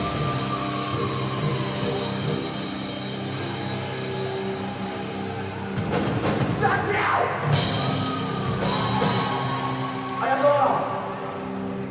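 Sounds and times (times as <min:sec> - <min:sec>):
live rock band: 0:00.0 - 0:11.9.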